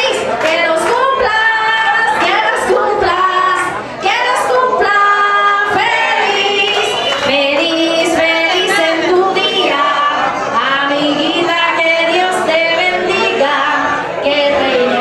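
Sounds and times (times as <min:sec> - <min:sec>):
loud dance music with woman singing: 0:00.0 - 0:15.0.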